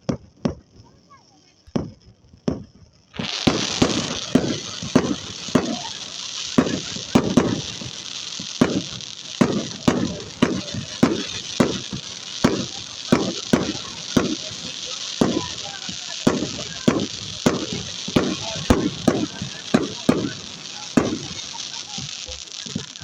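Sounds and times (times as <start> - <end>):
steady hiss: 0.7 - 23.0.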